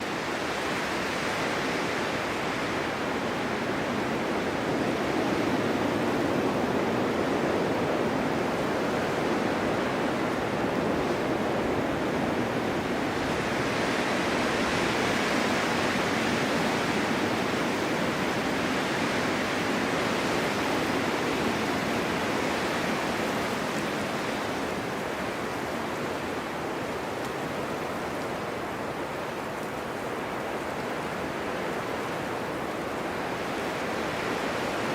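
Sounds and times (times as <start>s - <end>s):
wind blowing in gusts: 0.0s - 34.9s.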